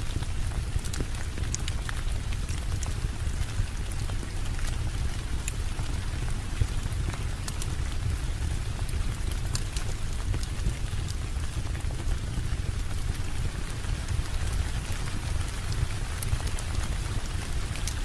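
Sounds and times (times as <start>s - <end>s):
steady rain: 0.0s - 18.0s
sharp ticks and small pops: 0.1s - 18.0s.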